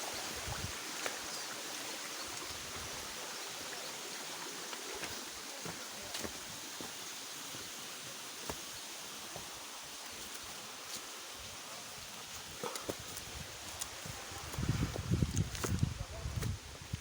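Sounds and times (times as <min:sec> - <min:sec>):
waterfall stream rushing: 0:00.0 - 0:15.1.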